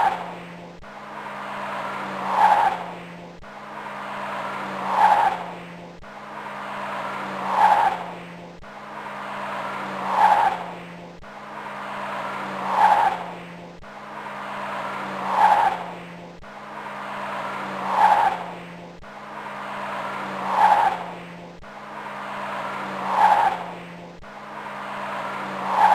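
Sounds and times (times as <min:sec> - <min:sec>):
flat tyre rubbing and squealing: 0:00.0 - 0:25.9.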